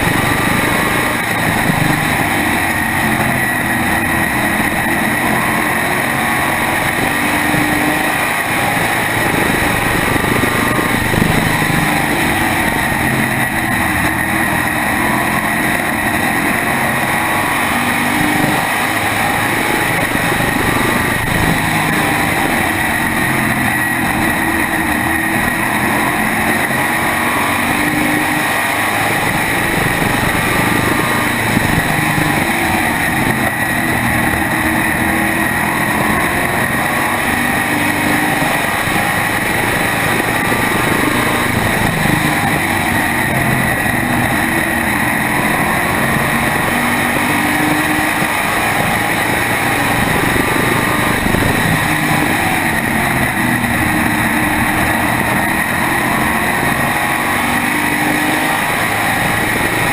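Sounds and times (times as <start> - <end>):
race car engine at full speed: 0.0 - 59.9
steady high whine: 0.0 - 59.9.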